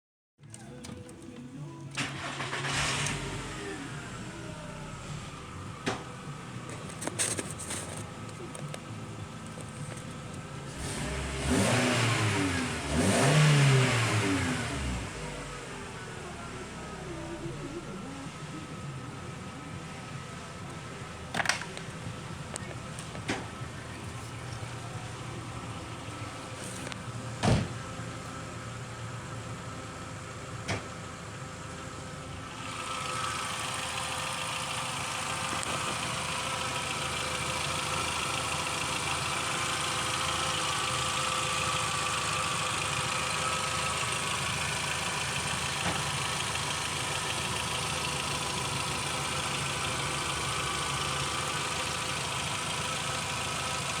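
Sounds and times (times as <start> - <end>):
car engine running: 0.4 - 54.0.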